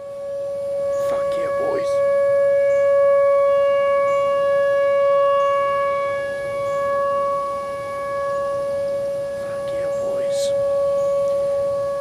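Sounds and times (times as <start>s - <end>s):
tornado warning siren: 0.0s - 12.0s.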